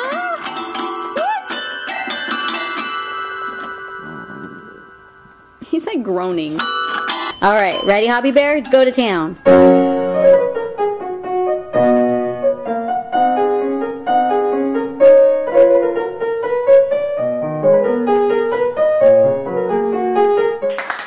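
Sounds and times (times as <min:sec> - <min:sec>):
piano playing melody with chords: 0:00.0 - 0:05.6, 0:06.5 - 0:20.7.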